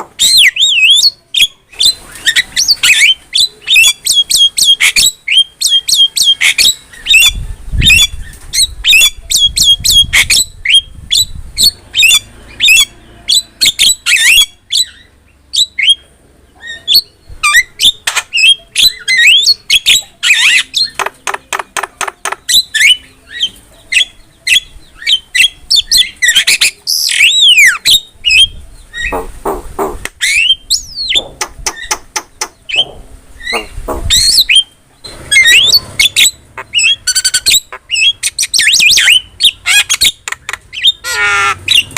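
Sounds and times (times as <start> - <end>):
bird squawking and whistling: 0.2 - 16.0, 16.6 - 21.6, 22.2 - 29.3, 30.2 - 41.9.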